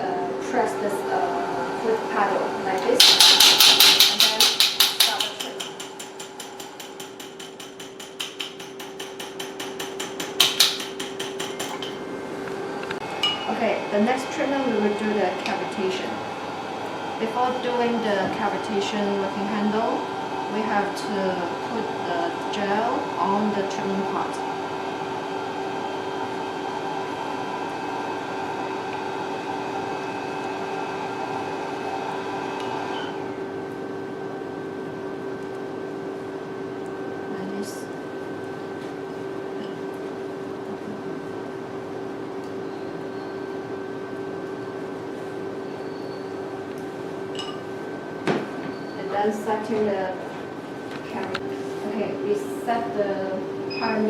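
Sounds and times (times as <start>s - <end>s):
fan noise: 0.0s - 54.0s
machine hum: 0.0s - 54.0s.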